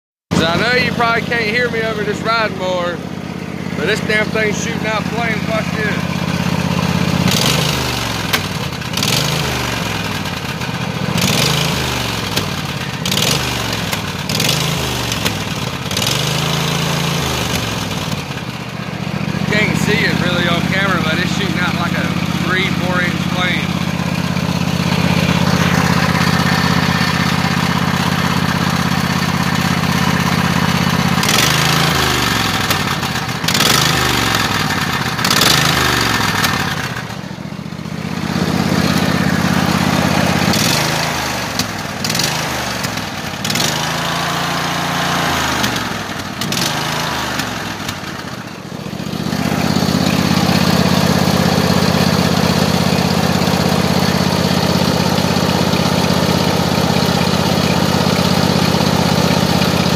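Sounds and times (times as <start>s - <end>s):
riding lawn mower engine revving: 0.3s - 59.9s.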